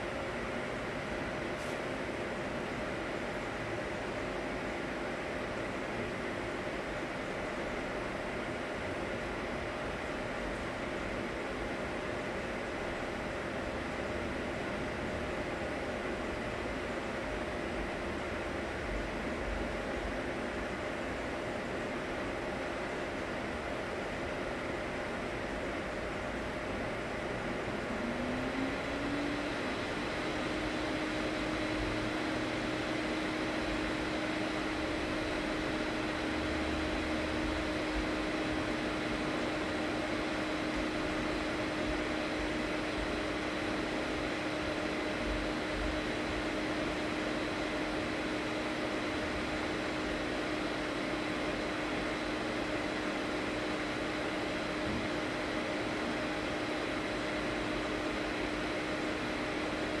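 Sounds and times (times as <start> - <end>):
fan humming and hissing: 0.0 - 60.0.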